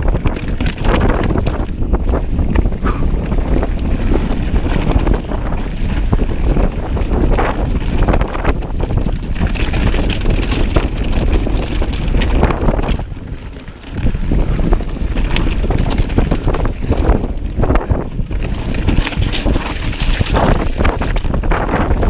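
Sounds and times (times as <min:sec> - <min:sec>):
bike rattling over loose rocks: 0:00.0 - 0:22.0
wind buffeting microphone: 0:00.0 - 0:22.0.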